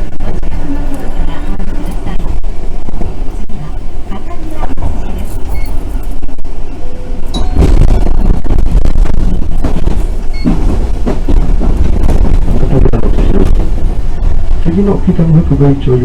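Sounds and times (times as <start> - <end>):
electric train rumbling on rails: 0.0 - 16.0.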